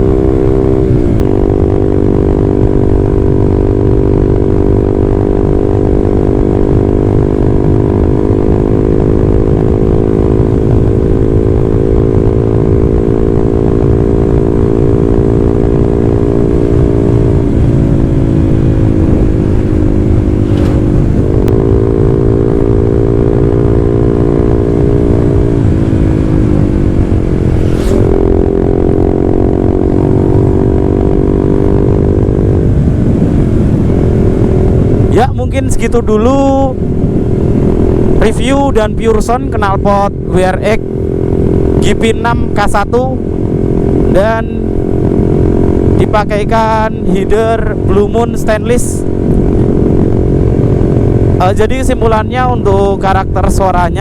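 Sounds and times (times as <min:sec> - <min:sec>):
motorcycle engine exhaust: 0:00.0 - 0:54.0
wind rumble on microphone: 0:00.0 - 0:54.0.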